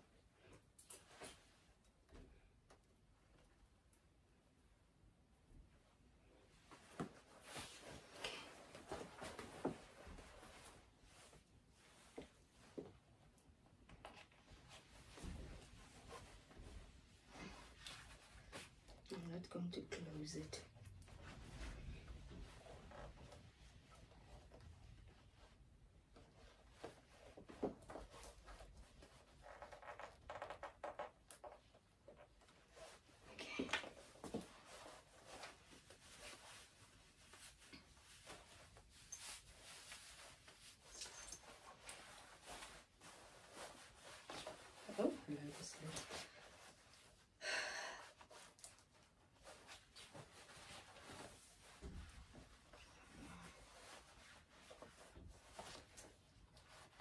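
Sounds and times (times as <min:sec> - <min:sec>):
clothing rustling: 0:00.0 - 0:02.5, 0:05.8 - 0:57.0.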